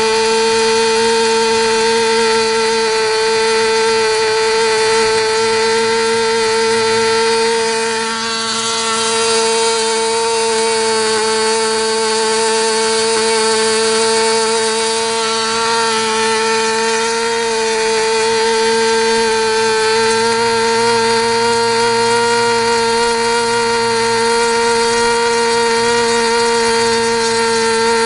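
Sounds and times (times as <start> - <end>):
model engine running high-pitched: 0.0 - 28.0.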